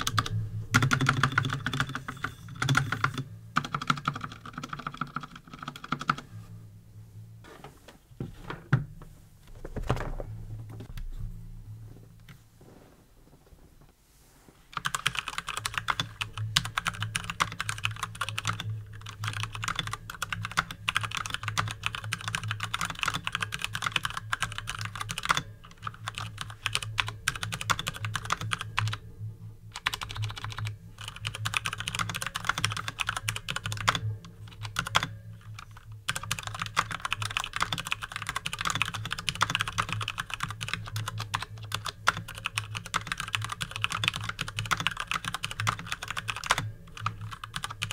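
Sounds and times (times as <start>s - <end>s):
mechanical keyboard typing: 0.0s - 6.3s, 14.7s - 29.0s, 29.8s - 47.9s.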